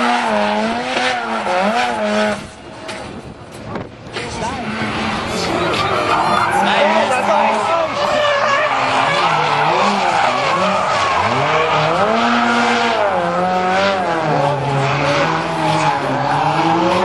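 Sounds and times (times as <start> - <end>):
tyres squealing and skidding: 0.0 - 3.0, 4.2 - 17.0
car engine revving: 0.0 - 17.0.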